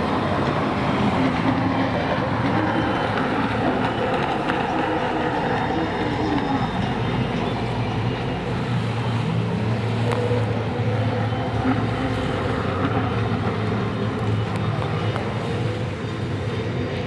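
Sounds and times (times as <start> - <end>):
jet ski engines racing: 0.0 - 17.0.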